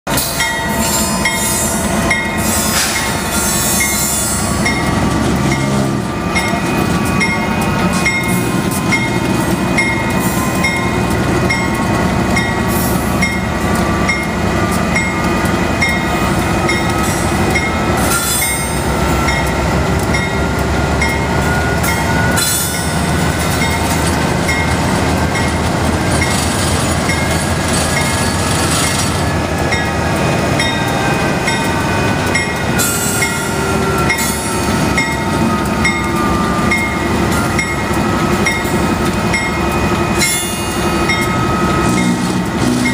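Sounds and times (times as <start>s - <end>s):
diesel locomotive rumbling: 0.0s - 42.9s
crossing warning bell ringing: 0.1s - 42.9s.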